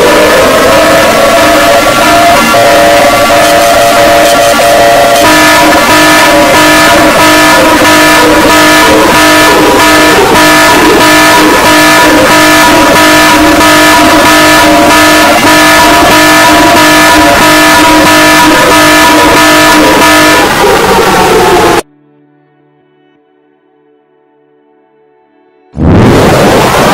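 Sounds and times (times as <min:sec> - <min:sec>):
harsh electronic alarm tone: 0:00.0 - 0:21.8.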